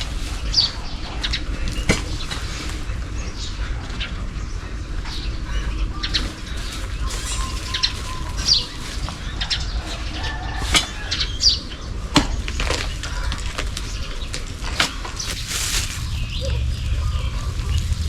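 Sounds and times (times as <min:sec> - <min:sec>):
rustling from handwork: 0:00.0 - 0:03.0, 0:06.1 - 0:18.0
birds chirping: 0:00.0 - 0:18.0
low rumble: 0:00.0 - 0:18.0.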